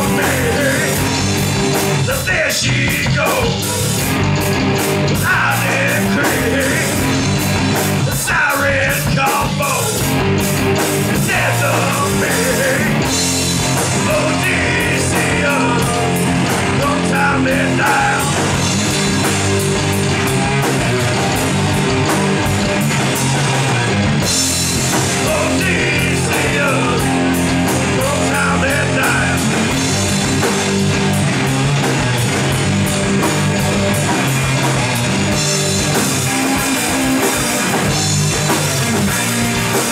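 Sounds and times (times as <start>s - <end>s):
pitch-bending guitar lead line: 0.0s - 39.9s
rock band playing live: 0.0s - 39.9s.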